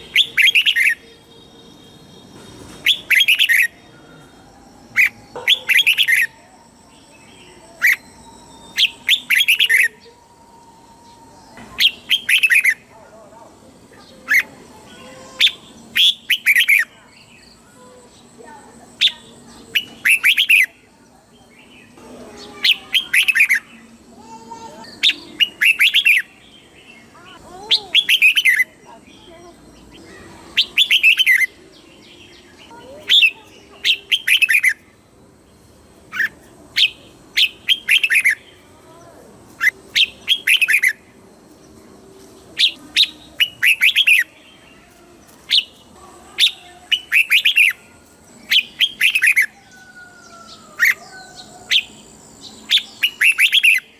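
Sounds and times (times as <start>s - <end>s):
bird singing short phrases: 0.0s - 4.3s, 4.9s - 10.2s, 11.0s - 12.9s, 14.0s - 34.9s, 36.1s - 41.1s, 42.6s - 53.9s.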